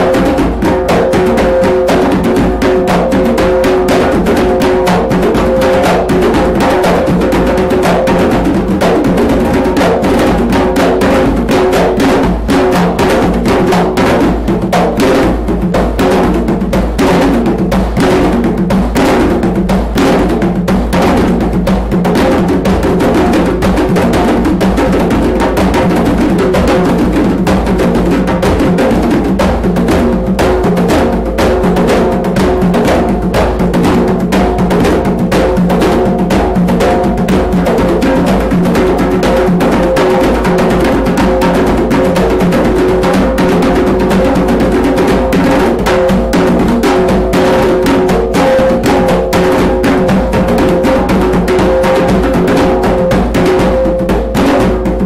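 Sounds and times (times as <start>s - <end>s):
djembes played by hand: 0.0s - 55.0s.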